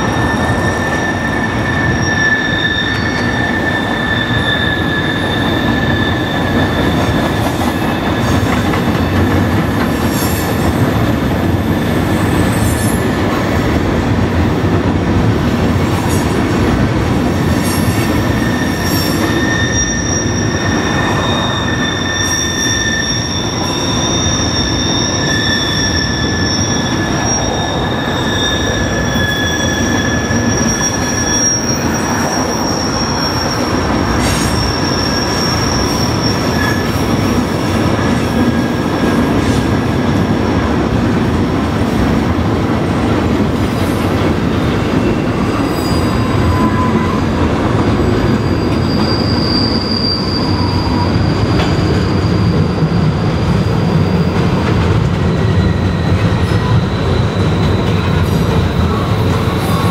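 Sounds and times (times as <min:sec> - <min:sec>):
train wheels squealing: 0:00.0 - 0:13.6, 0:17.3 - 0:42.2, 0:43.6 - 0:59.9
train rumbling over bridge: 0:00.0 - 0:59.9.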